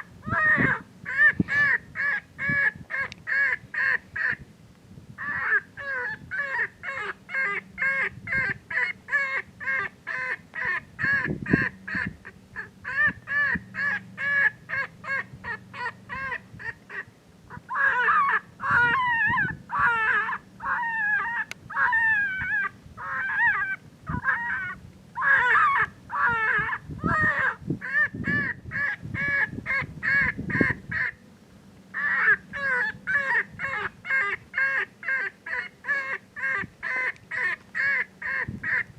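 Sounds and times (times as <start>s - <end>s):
predator call squalling cries: 0.0s - 4.4s, 5.2s - 31.2s, 31.9s - 38.9s.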